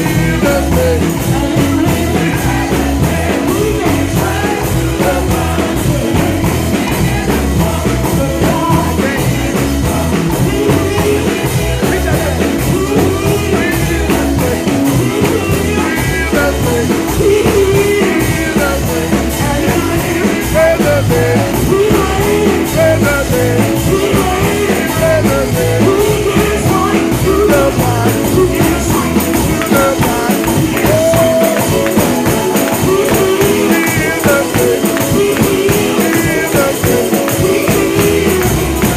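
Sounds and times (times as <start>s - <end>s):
band with driving beat: 0.0s - 38.9s
man singing lead: 0.0s - 38.9s.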